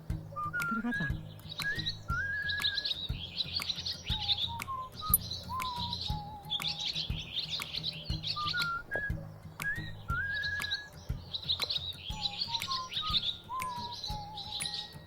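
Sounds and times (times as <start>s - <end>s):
music with steady beat: 0.0s - 15.0s
small birds chirping: 0.0s - 15.0s.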